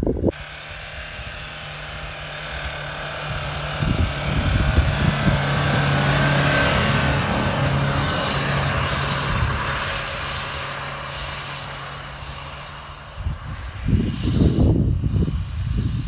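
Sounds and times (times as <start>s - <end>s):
truck engine working hard: 0.0s - 14.0s.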